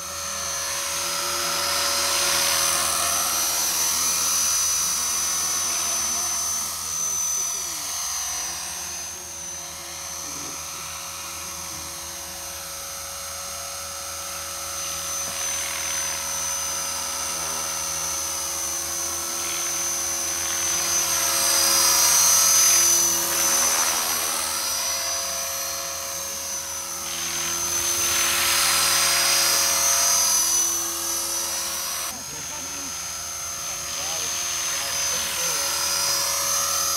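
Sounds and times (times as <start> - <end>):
rc helicopter motor whine: 0.0 - 36.9
rotor blades whirring: 0.0 - 36.9.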